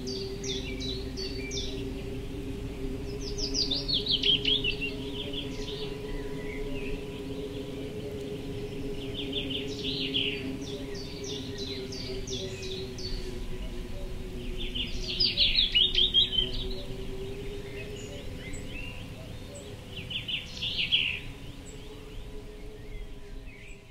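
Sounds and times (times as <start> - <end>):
low steady hum: 0.0 - 23.9
songbird chirping: 0.0 - 23.9.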